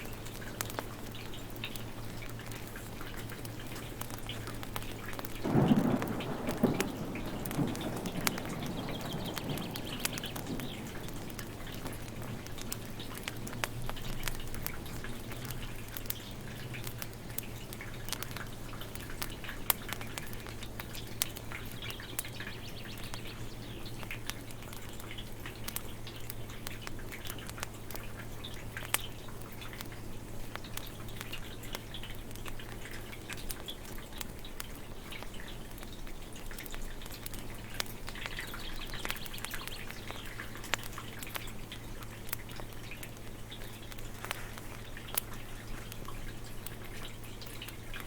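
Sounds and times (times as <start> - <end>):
logs crackling in fireplace: 0.0 - 48.0
fire pops and snaps: 0.1 - 48.0.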